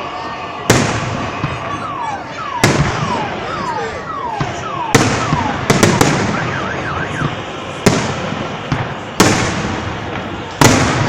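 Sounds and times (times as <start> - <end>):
falling firework whistle: 0.0 - 11.0
fireworks bangs: 0.0 - 11.0
wavering firework whistle: 0.0 - 11.0.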